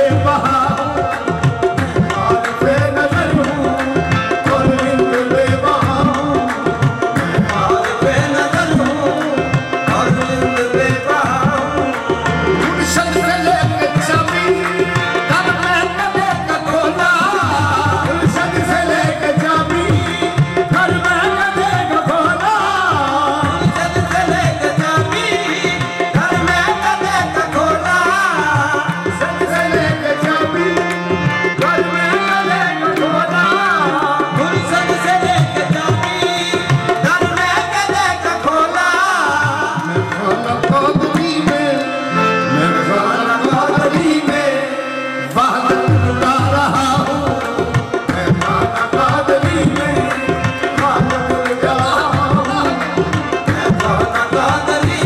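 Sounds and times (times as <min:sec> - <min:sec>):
harmoniums: 0:00.0 - 0:55.0
lead singer singing: 0:00.0 - 0:55.0
tabla rhythm: 0:00.0 - 0:55.0.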